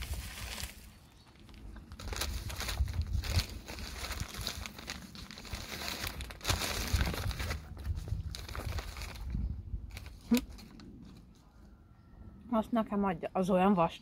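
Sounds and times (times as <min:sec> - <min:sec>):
food packaging crinkling: 0:00.0 - 0:11.2.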